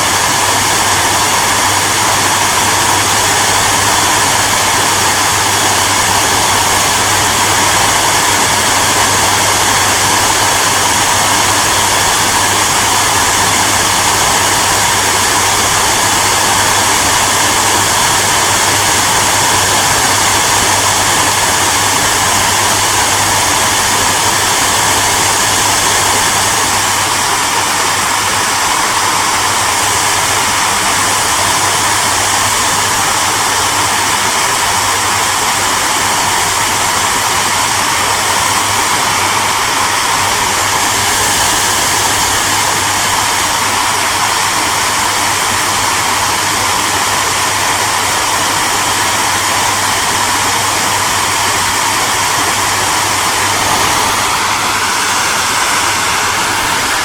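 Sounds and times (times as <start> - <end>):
hair dryer blowing air: 0.0 - 57.0.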